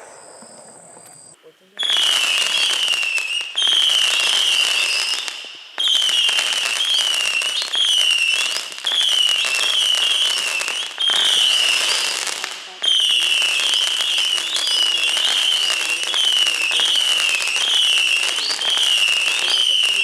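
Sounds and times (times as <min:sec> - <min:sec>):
firework crackling: 0:00.0 - 0:20.0
firework whistles: 0:00.0 - 0:20.0.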